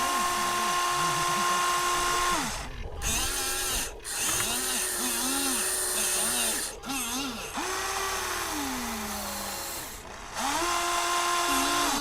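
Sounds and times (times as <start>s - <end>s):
toy electric motors whining: 0.0s - 12.0s.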